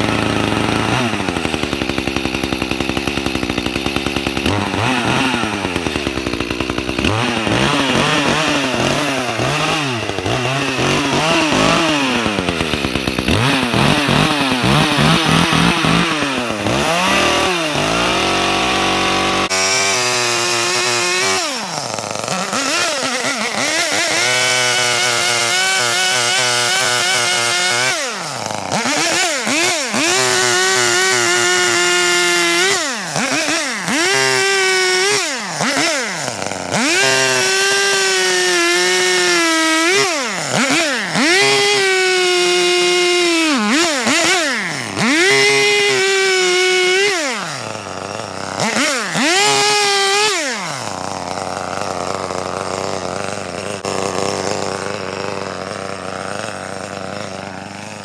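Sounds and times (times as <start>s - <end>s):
chainsaw cutting wood: 0.0s - 58.0s
chainsaw revving: 0.0s - 58.0s.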